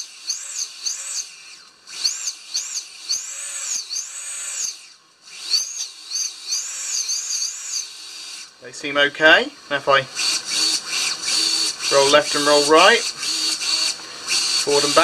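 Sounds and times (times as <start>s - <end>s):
brushless motors whining: 0.0s - 9.0s, 9.6s - 15.0s.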